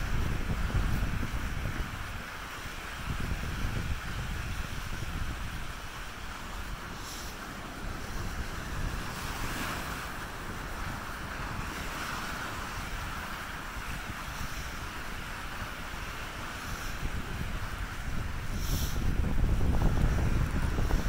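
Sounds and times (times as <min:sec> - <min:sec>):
ocean surf washing: 0:00.0 - 0:21.0
wind buffeting microphone: 0:00.0 - 0:21.0.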